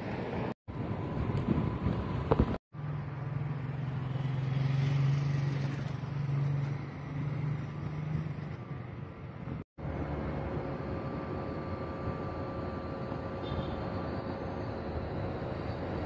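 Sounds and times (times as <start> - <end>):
street noise: 0.0 - 16.0
vehicle engine humming: 0.0 - 16.0.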